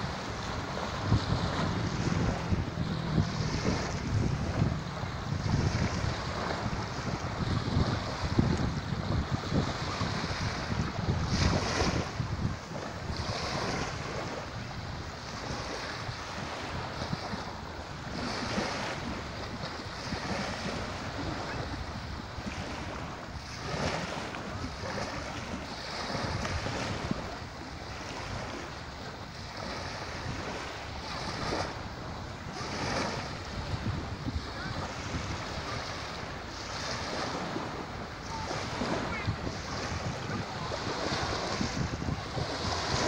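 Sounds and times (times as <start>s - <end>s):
waves lapping on shore: 0.0s - 43.0s
wind rumbling on microphone: 0.0s - 43.0s.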